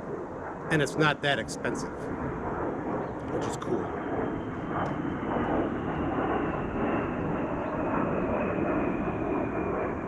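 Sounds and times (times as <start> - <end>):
fighter jet roaring overhead: 0.0 - 10.0.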